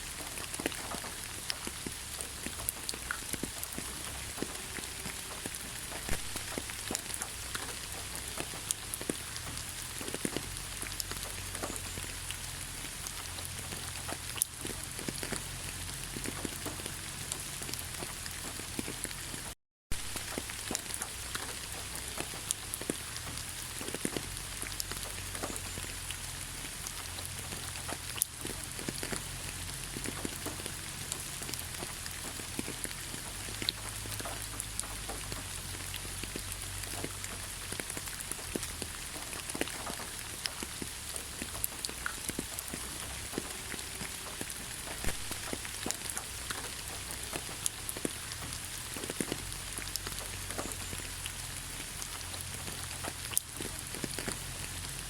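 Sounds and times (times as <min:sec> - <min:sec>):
rain hissing: 0:00.0 - 0:55.0
raindrops tapping on a surface: 0:00.0 - 0:55.0.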